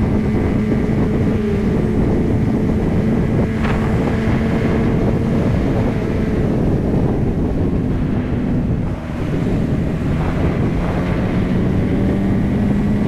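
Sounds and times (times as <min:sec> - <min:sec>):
motorcycle engine hum: 0:00.0 - 0:13.0
wind buffeting microphone: 0:00.0 - 0:13.0.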